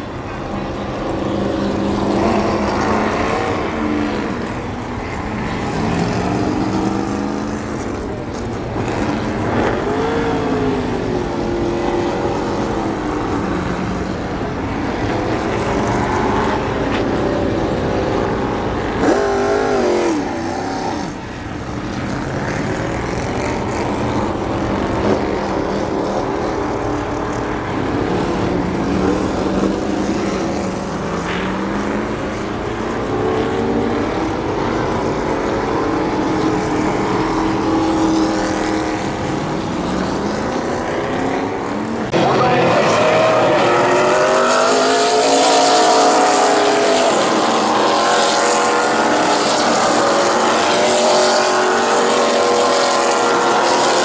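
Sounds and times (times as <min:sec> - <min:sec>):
race truck engines passing: 0:00.0 - 0:54.0.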